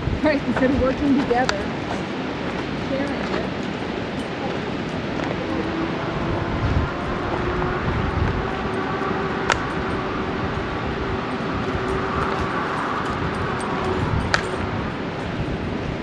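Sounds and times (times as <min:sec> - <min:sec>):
truck road and engine noise: 0:00.0 - 0:16.0.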